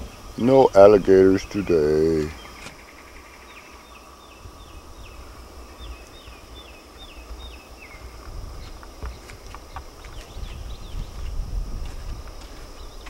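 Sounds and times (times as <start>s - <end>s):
bird singing: 0.0s - 11.5s, 12.2s - 13.0s.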